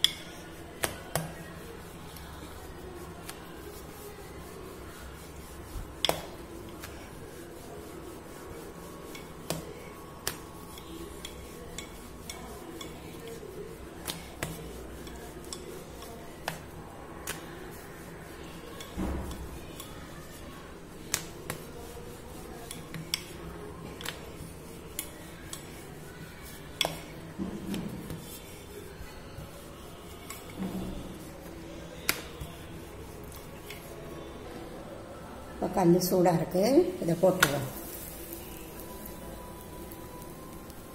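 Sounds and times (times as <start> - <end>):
rolling pin rolling dough: 0.0 - 35.0.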